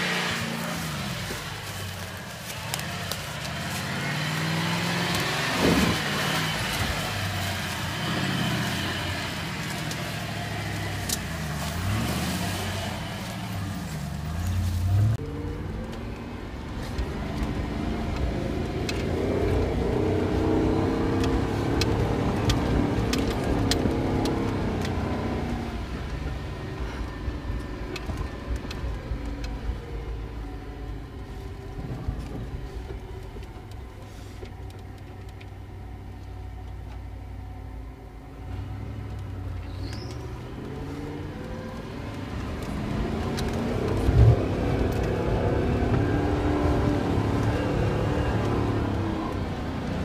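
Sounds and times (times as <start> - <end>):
vehicle engine from inside cabin: 0.0 - 50.0.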